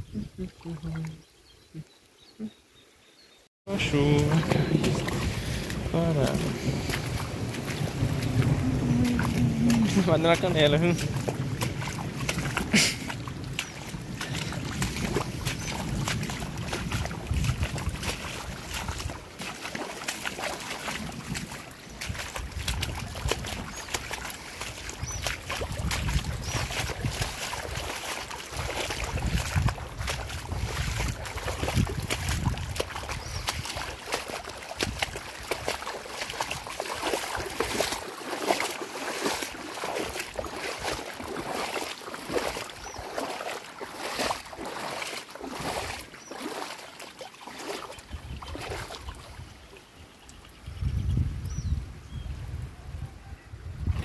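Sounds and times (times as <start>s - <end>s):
runoff water running: 0.0s - 2.6s, 3.7s - 50.5s
wind buffeting microphone: 3.7s - 46.0s, 48.0s - 49.6s, 50.6s - 54.0s
boots splashing through water: 3.7s - 50.0s.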